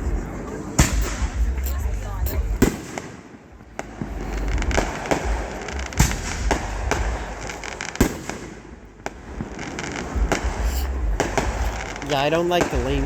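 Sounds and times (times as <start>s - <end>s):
fireworks bangs and crackles: 0.0s - 13.0s
steady low rumble: 0.0s - 13.0s.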